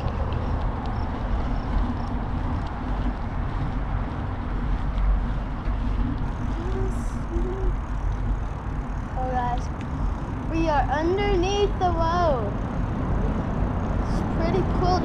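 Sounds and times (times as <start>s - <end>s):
wind and rolling rumble: 0.0s - 15.0s.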